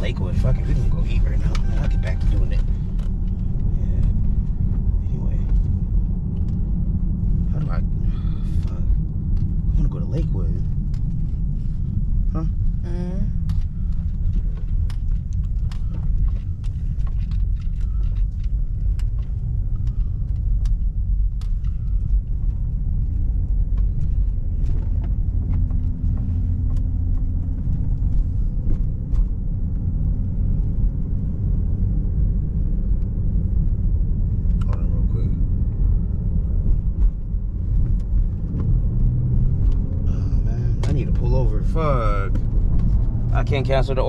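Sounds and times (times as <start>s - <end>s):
truck engine and road rumble: 0.0s - 44.0s.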